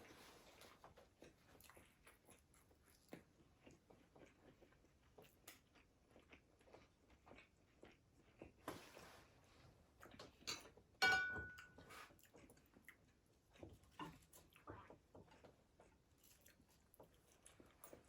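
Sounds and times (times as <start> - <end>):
chewing crunchy fried food: 0.0 - 11.0, 11.7 - 18.0.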